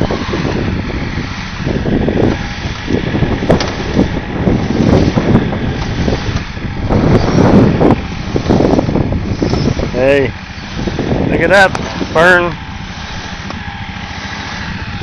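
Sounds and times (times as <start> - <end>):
motor running: 0.0 - 15.0
wind rumble on microphone: 0.0 - 15.0.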